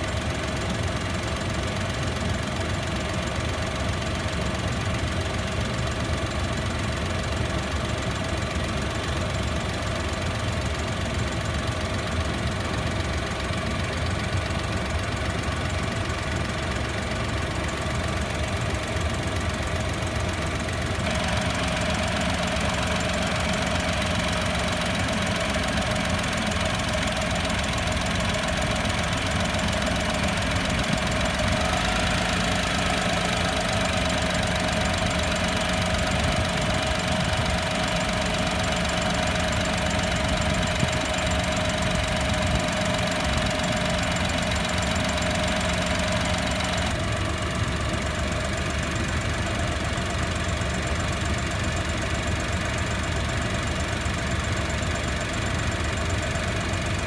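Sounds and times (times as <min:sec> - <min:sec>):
small car engine idling: 0:00.0 - 0:57.0.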